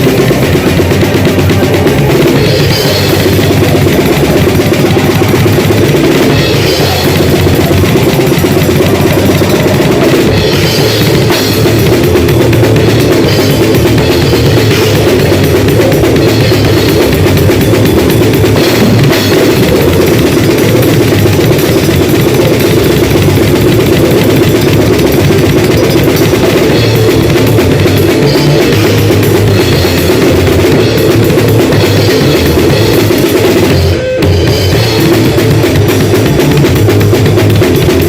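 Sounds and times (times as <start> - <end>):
drum kit pounding: 0.0 - 38.0.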